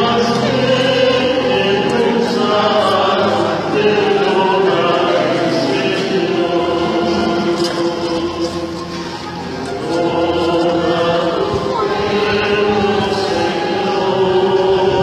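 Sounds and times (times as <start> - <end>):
crowd singing held notes: 0.0 - 15.0.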